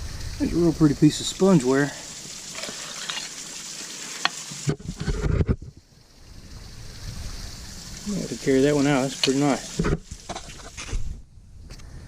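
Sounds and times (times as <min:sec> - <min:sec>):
crackling rustle of debris: 0:00.0 - 0:11.9.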